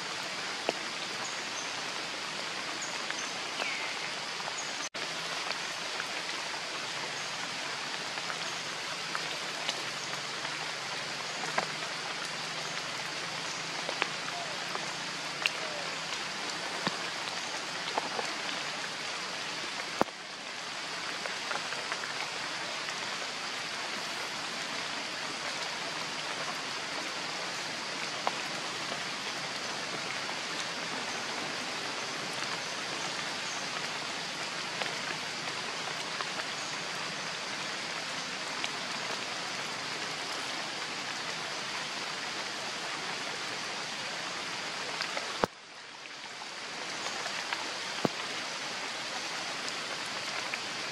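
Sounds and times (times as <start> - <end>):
rain on leaves and paving: 0.0 - 50.9.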